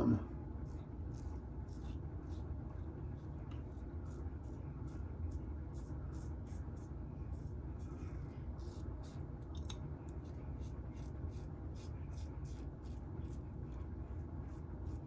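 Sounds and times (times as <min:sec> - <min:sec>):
low room hum: 0:00.0 - 0:15.0
razor scraping stubble: 0:00.6 - 0:15.0.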